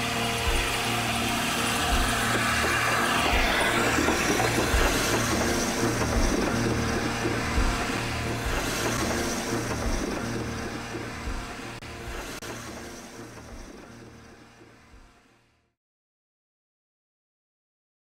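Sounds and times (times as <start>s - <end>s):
steam locomotive passing: 0.0s - 15.1s
wheels rushing on rails: 0.0s - 15.1s.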